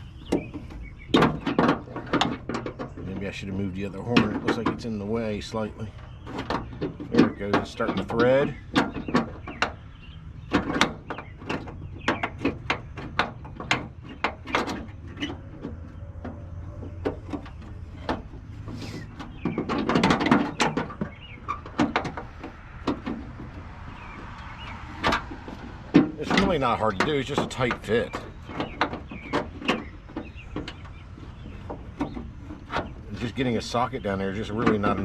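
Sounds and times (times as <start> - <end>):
tool clattering on metal: 0.2 - 35.0.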